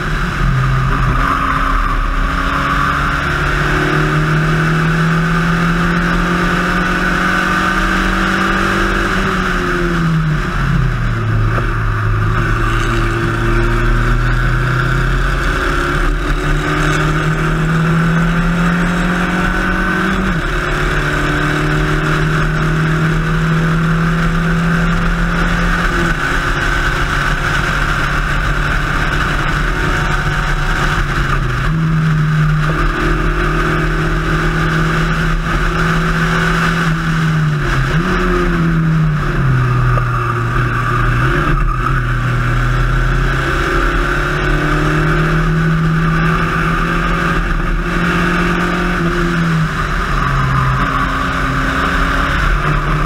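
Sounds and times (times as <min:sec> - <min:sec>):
race car engine running hard: 0:00.0 - 0:53.0.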